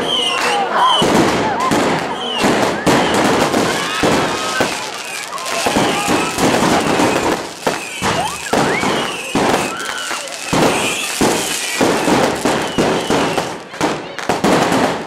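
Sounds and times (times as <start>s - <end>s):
fireworks bangs and crackles: 0.0s - 15.0s
fireworks whistles: 0.0s - 15.0s.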